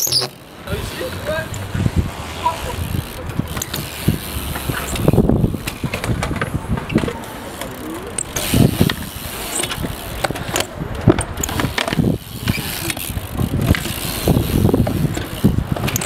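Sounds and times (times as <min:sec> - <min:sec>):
bike knocking and clicking: 0:00.0 - 0:16.0
bike tyres rolling on concrete: 0:00.0 - 0:16.0.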